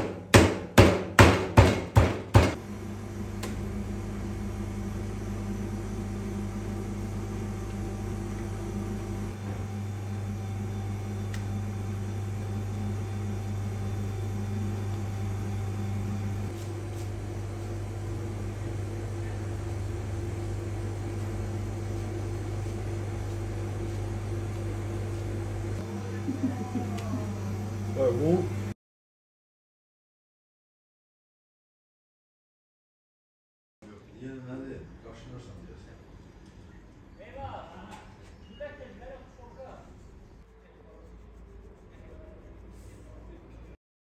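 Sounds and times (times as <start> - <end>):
low machine hum: 2.3 - 28.8, 34.1 - 43.8.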